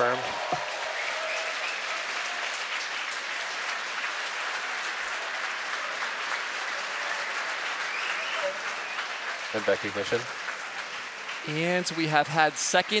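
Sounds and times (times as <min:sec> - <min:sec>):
crowd applauding and cheering: 0:00.0 - 0:13.0.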